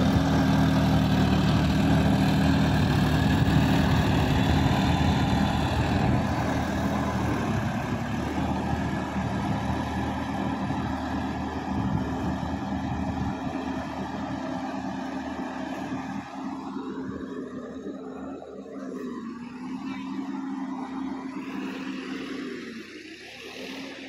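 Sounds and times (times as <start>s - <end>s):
tiller churning mud and water: 0.0s - 24.0s
tractor diesel engine running: 0.0s - 24.0s.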